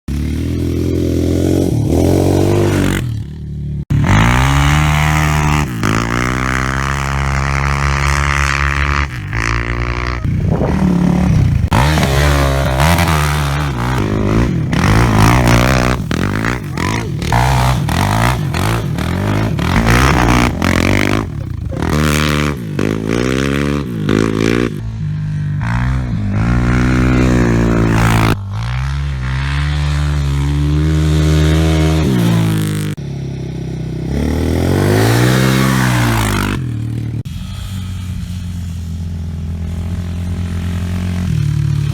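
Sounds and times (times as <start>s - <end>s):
quad engines revving: 0.1s - 41.9s.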